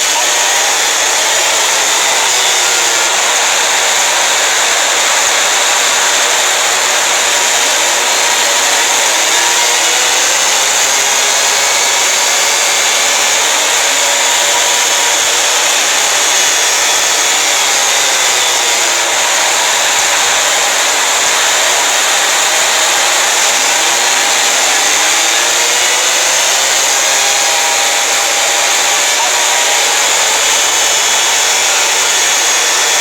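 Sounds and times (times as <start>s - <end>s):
harsh distorted alarm noise: 0.0s - 33.0s.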